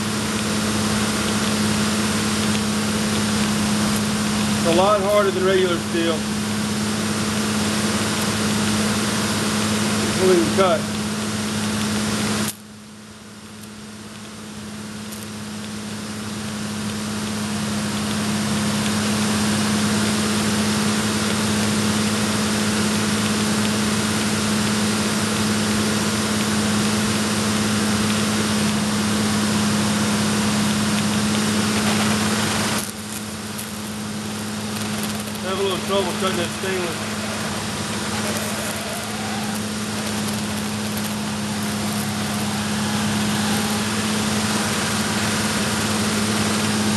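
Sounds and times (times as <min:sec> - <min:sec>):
low engine hum: 0:00.0 - 0:46.9
torch flame hissing: 0:00.0 - 0:46.9.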